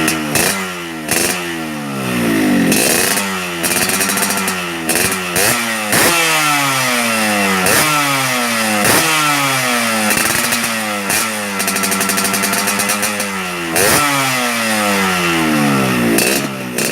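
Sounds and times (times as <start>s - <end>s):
two-stroke motorcycle engine revving: 0.0s - 16.9s.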